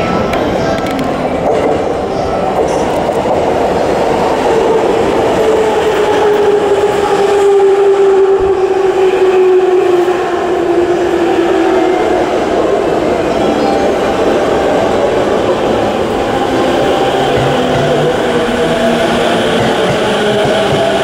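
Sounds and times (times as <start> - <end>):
electric train running past: 0.0 - 21.0.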